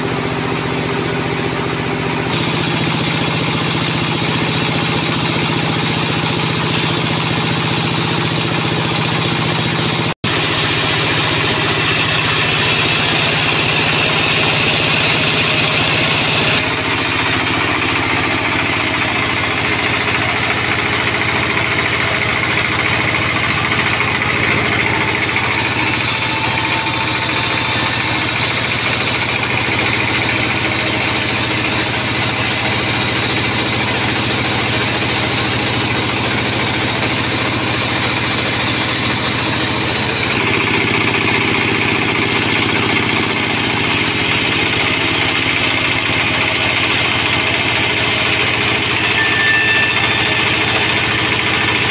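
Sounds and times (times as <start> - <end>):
band saw cutting log: 10.3 - 51.9.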